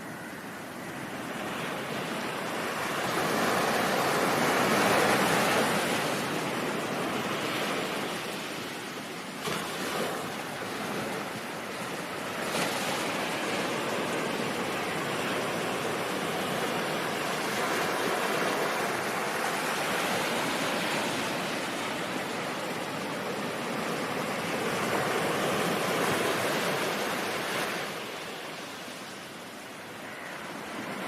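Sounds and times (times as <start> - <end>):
ocean surf waves: 0.0 - 31.0.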